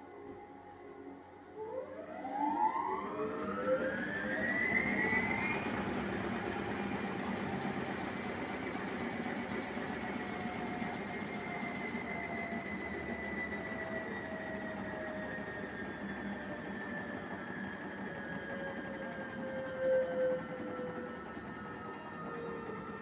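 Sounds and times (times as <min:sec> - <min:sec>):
washing machine motor whine: 0:02.0 - 0:23.0.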